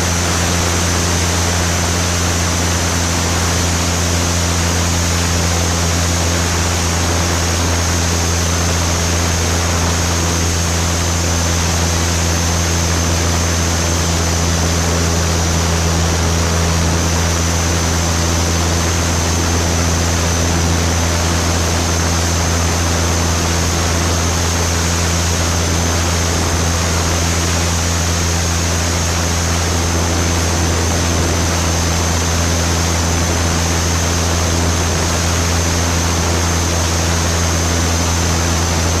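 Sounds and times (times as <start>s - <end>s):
airplane engine and propeller drone: 0.0s - 39.0s.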